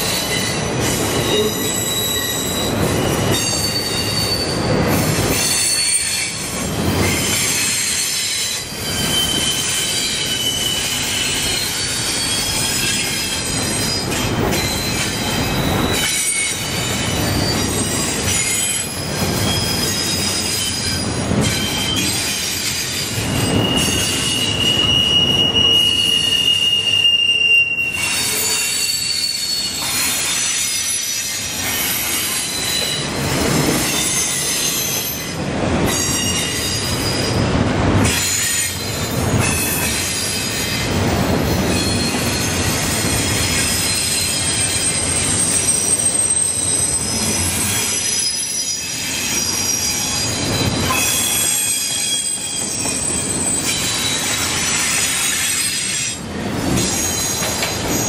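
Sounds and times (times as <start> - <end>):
freight train rumbling past: 0.0 - 58.0
train wheel squeal: 0.0 - 58.0.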